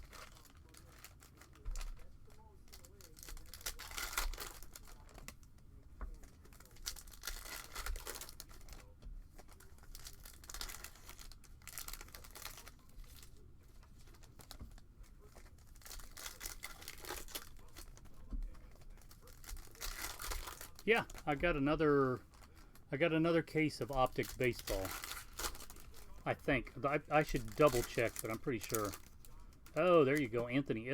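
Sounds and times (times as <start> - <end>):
card pack wrappers tearing: 0.0 - 5.4, 6.2 - 14.6, 15.2 - 30.8.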